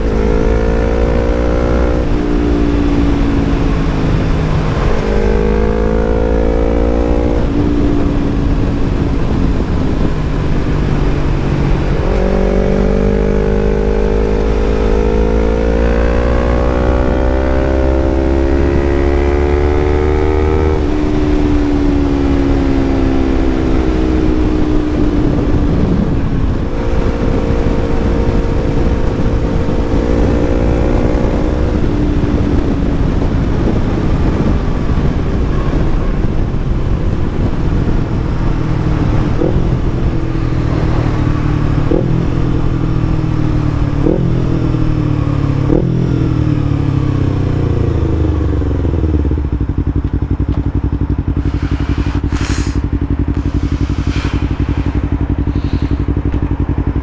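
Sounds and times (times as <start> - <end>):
motorcycle engine revving and idling: 0.0 - 57.0.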